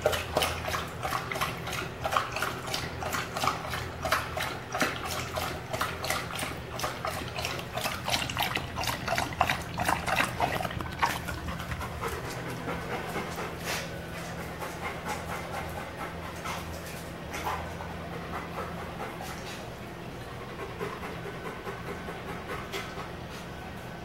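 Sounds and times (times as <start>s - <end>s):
dog lapping water from bowl: 0.0s - 23.3s
dog panting: 0.0s - 23.8s.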